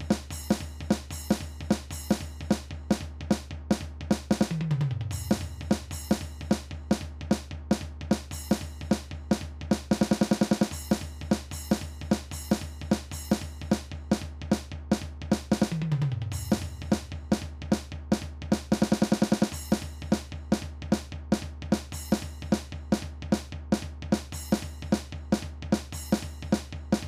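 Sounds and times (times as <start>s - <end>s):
drum kit playing a beat: 0.0s - 27.0s
fast snare run: 0.0s - 27.0s
tom fill: 0.0s - 27.0s.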